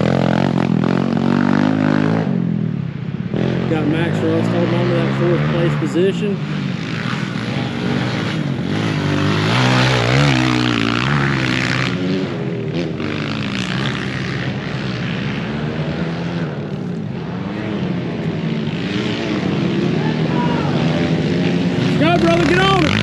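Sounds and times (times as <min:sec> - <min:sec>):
pit bike engines revving: 0:00.0 - 0:23.0.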